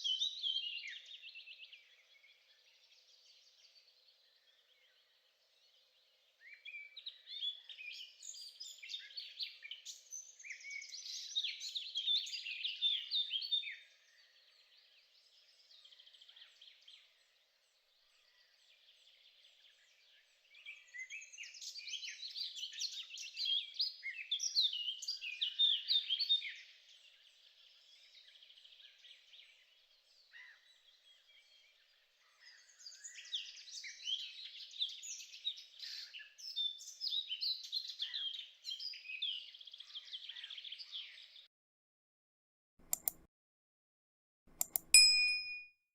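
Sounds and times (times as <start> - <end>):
songbird chirping: 0.0 - 41.5, 42.9 - 43.3, 44.6 - 45.6.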